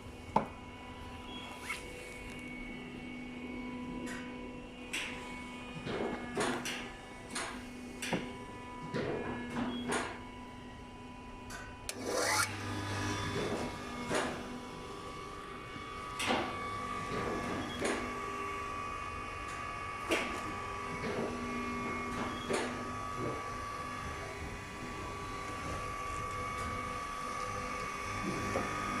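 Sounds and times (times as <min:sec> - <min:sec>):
electric paper drill motor hum: 0:00.0 - 0:29.0.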